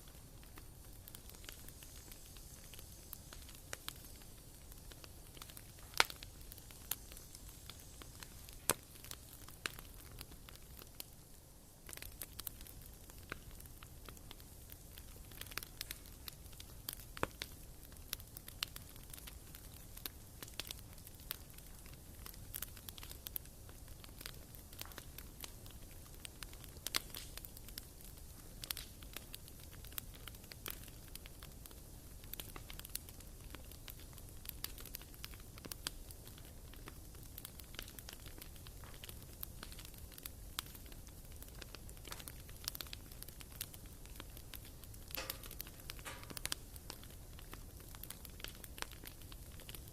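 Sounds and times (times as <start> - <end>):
fire pops and snaps: 0.0 - 49.9
wood fire crackling: 0.0 - 49.9.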